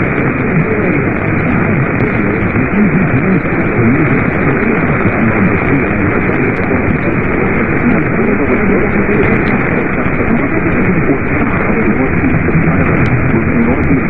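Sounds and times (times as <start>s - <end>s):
faint voice: 0.0s - 14.0s
muffled radio static hiss: 0.0s - 14.0s.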